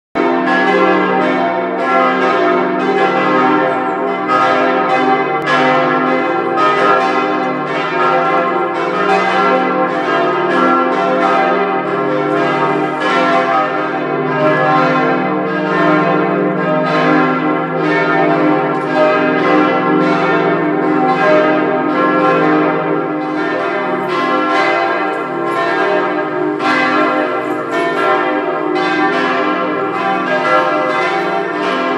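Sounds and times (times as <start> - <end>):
church bells pealing: 0.2 - 31.9.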